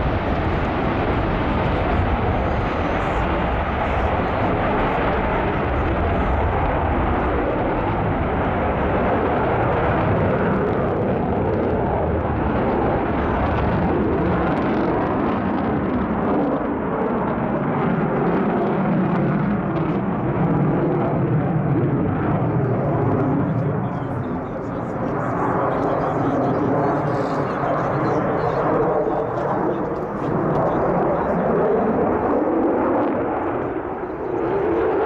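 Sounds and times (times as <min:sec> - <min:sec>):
fighter jet engine roar: 0:00.0 - 0:35.0.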